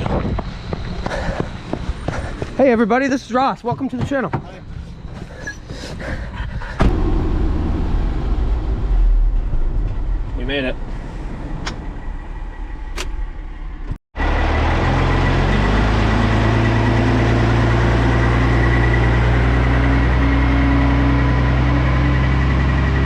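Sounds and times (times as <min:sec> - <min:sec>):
engine running with high whine: 0:00.0 - 0:23.0
vehicle rumble: 0:00.0 - 0:23.0.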